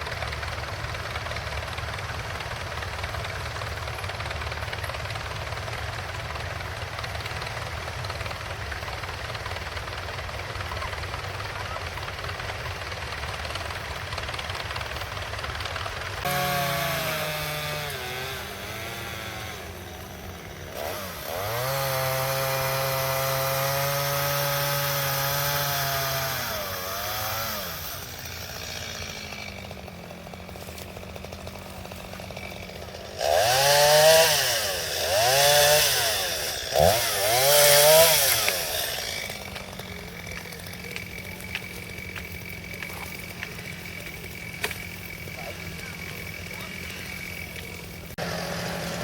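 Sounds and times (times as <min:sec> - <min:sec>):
engine running and revving: 0:03.0 - 0:49.0.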